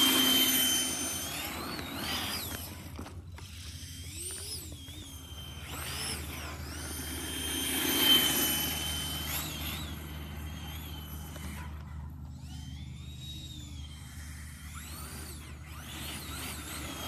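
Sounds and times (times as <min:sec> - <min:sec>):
electric jet motor whining: 0:00.0 - 0:17.0.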